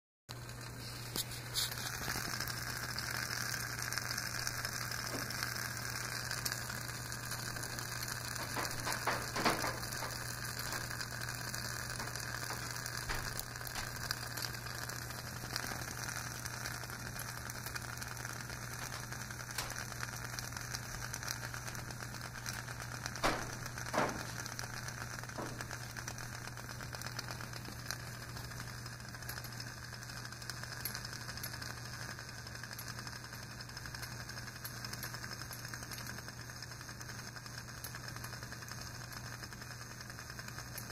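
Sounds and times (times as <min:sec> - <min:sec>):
low hum: 0:00.3 - 0:33.3
camping stove hissing: 0:00.3 - 0:40.9
faint clicks and crackles: 0:00.3 - 0:40.9.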